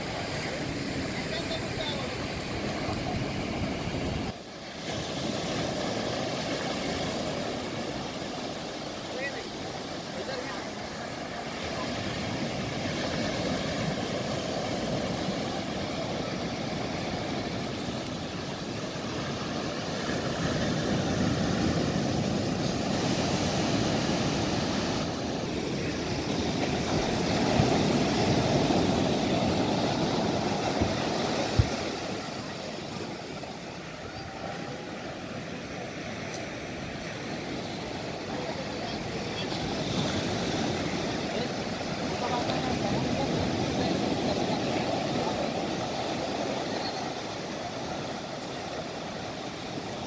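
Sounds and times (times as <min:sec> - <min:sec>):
surf breaking on beach: 0:00.0 - 0:50.0.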